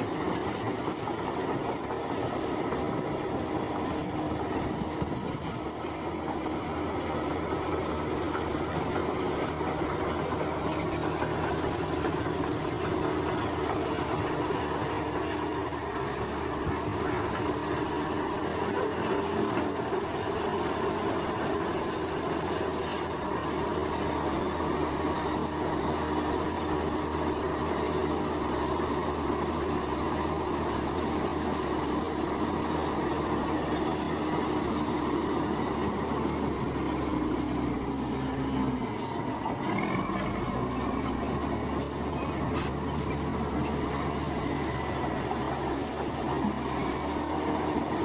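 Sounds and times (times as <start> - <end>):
diesel engine of heavy machinery: 0.0 - 48.0.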